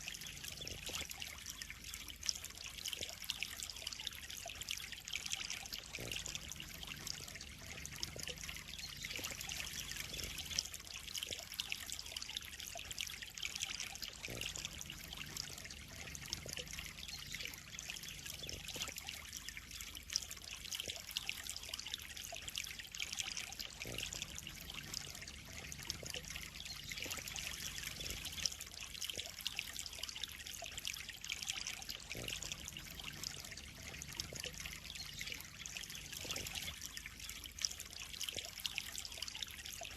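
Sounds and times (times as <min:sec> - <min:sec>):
water splashing into pond: 0:00.0 - 0:39.9.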